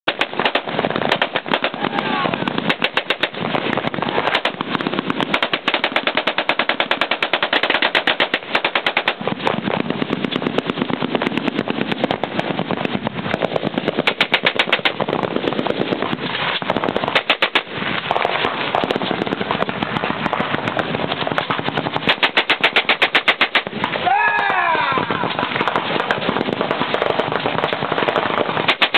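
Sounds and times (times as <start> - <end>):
machine guns firing: 0.0 - 24.0, 25.2 - 28.9.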